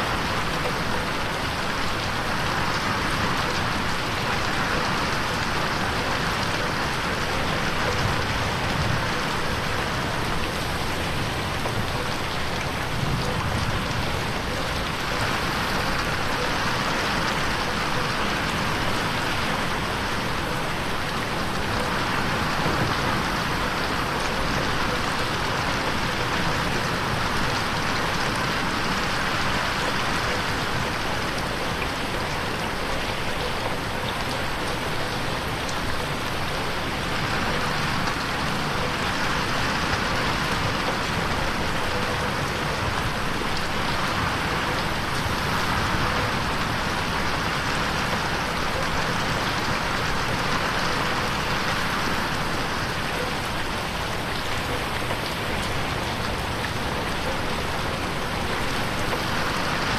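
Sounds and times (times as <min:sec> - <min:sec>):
rain pattering on a window: 0:00.0 - 0:59.9.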